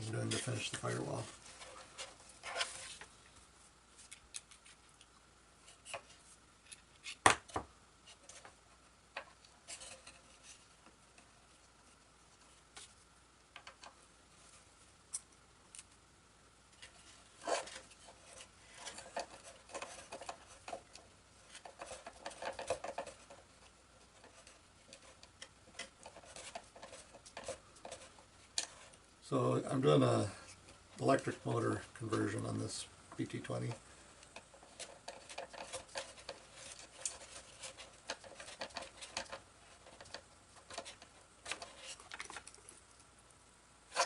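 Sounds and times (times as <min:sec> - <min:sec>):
rustling: 0:00.0 - 0:44.0.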